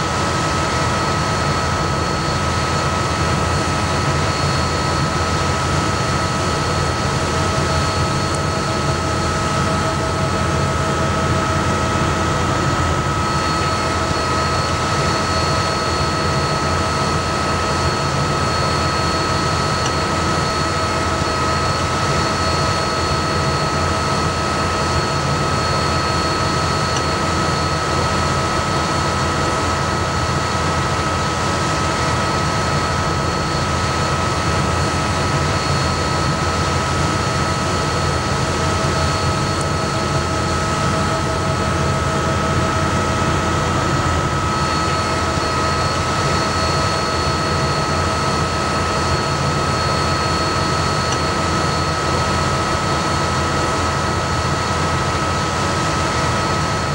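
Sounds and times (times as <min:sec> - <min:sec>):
combine harvester engine drone: 0:00.0 - 0:56.9
high-pitched whine: 0:00.0 - 0:56.9.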